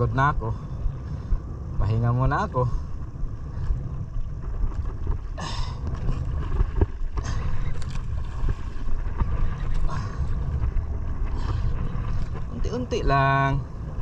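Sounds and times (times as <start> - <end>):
low rumble of wind and water: 0.0 - 14.0.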